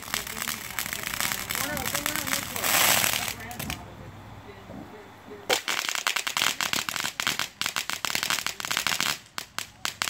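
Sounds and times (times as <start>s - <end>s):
firework crackling pops: 0.0s - 3.8s, 5.5s - 10.0s.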